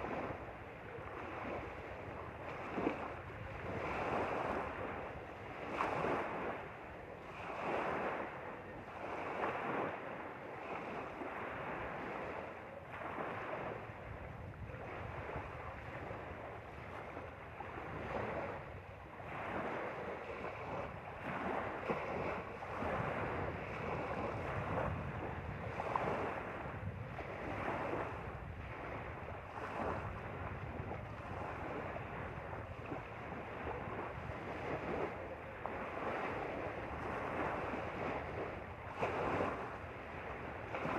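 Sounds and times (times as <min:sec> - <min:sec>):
waves lapping at shore: 0:00.0 - 0:40.9
wind rumbling on microphone: 0:00.0 - 0:40.9.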